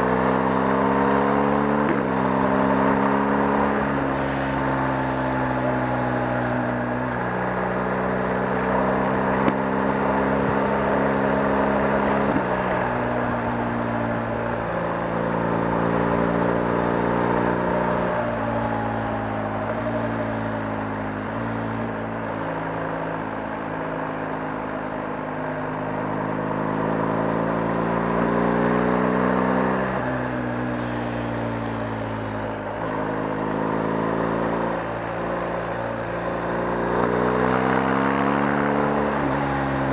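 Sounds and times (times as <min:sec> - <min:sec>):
motorcycle engine running: 0:00.0 - 0:39.9
wind and tyre noise: 0:00.0 - 0:39.9.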